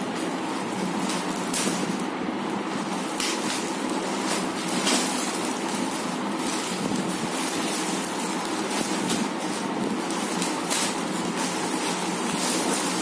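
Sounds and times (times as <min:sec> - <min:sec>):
plastic bag crinkling: 0:00.0 - 0:13.0
steady hiss: 0:00.0 - 0:13.0.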